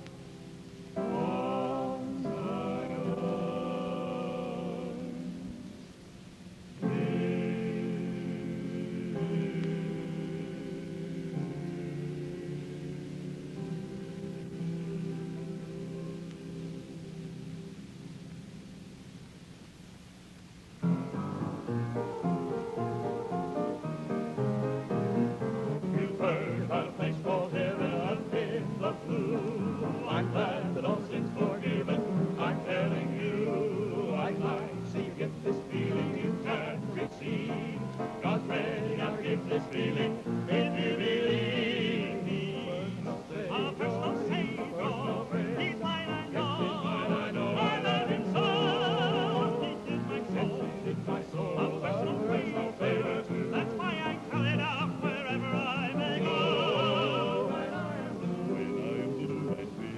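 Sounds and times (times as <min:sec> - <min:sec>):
gospel singing: 0:00.0 - 0:19.1, 0:21.1 - 0:59.9.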